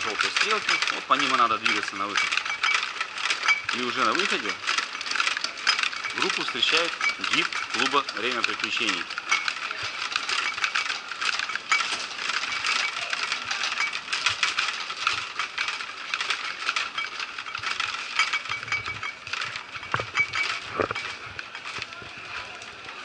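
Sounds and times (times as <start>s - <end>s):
metal luggage trolley rattling: 0.0s - 23.0s.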